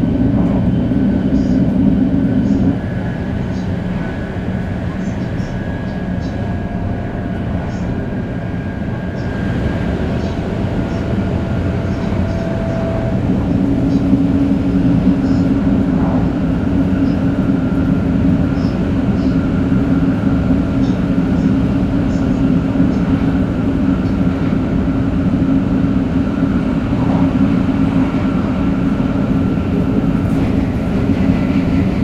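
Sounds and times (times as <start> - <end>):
train rumbling: 0.0 - 32.0
whining traction inverter: 1.2 - 32.0.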